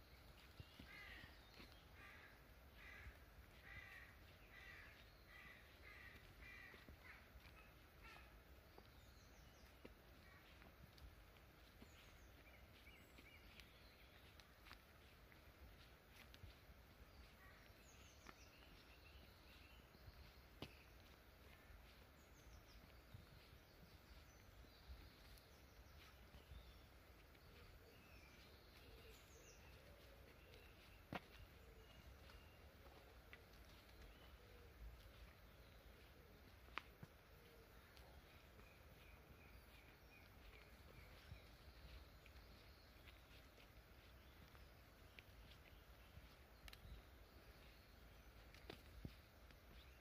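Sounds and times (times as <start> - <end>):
faint harsh bird calls: 0.4 - 43.2.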